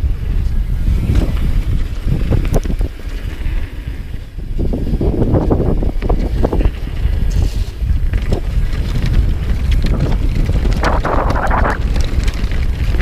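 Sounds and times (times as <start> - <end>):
bike rattling over bumps: 0.0 - 13.0
tyres rolling on dirt: 0.0 - 13.0
wind rushing over microphone: 0.0 - 13.0.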